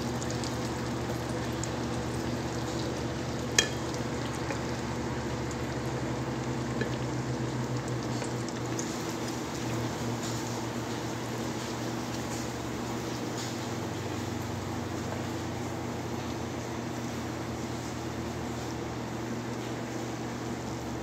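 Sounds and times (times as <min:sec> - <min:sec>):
slices sizzling in hot oil: 0:00.0 - 0:19.1.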